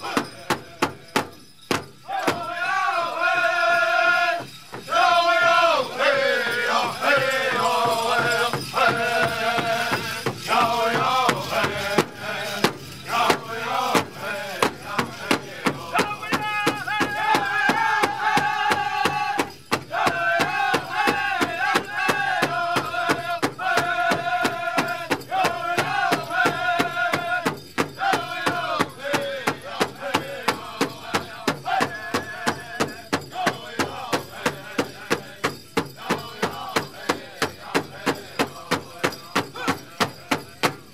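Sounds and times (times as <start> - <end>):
group singing in unison: 0.0 - 1.3, 2.0 - 40.9
large drum beating steadily: 0.0 - 40.9.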